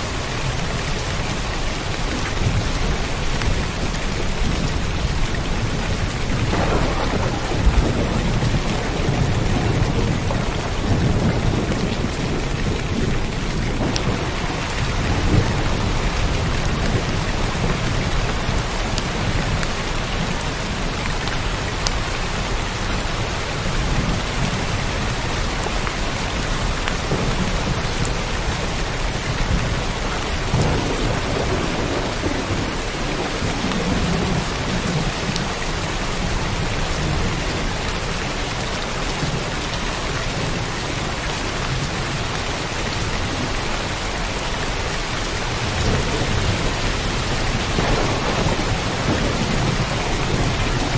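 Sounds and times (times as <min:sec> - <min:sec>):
steady rain falling: 0:00.0 - 0:50.9
thunder rumbling: 0:00.1 - 0:21.0, 0:23.6 - 0:40.7, 0:43.1 - 0:50.9.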